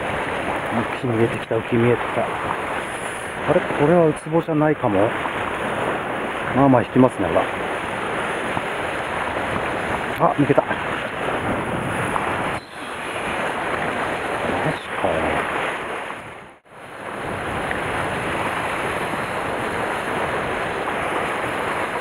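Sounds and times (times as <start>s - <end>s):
sea surf washing over rocks: 0.0s - 22.0s
wind noise on microphone: 0.0s - 22.0s.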